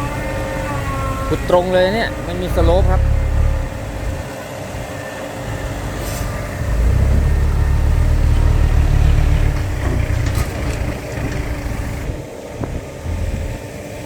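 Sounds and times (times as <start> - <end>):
diesel dump truck engine rumbling: 0.0 - 14.0.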